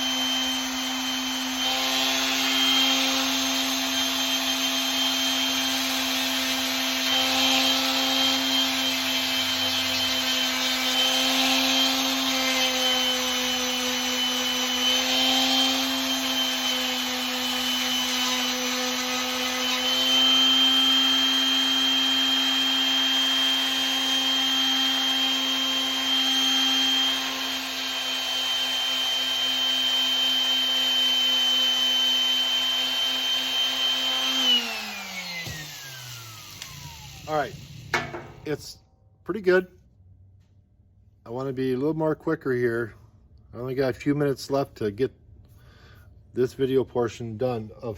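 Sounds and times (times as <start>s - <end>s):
electric sander on metal: 0.0s - 38.6s.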